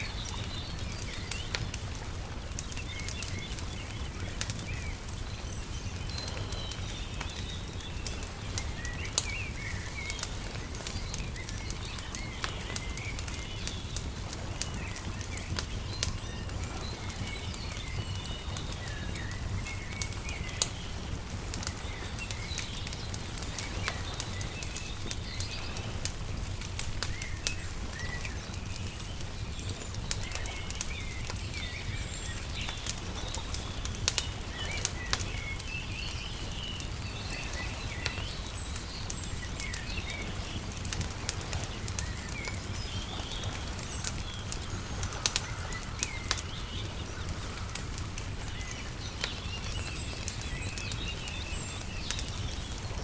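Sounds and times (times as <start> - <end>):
small birds chirping: 0.0 - 53.0
wood fire crackling and popping: 0.0 - 53.0.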